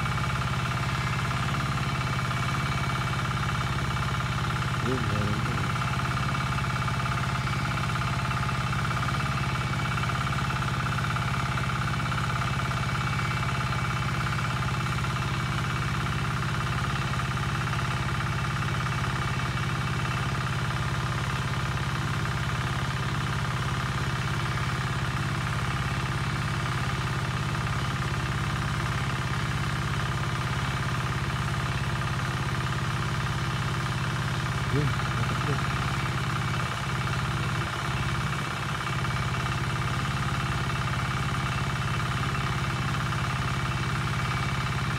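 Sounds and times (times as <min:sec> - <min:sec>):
small engine humming steadily: 0:00.0 - 0:44.9.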